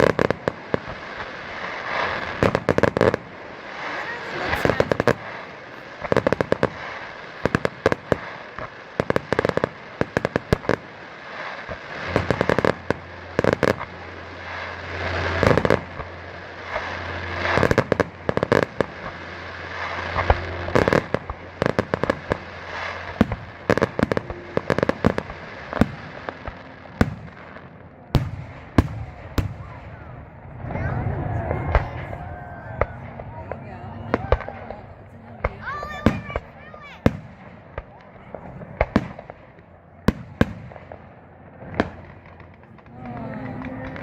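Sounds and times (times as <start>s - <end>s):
fireworks banging and crackling: 0.0s - 44.0s.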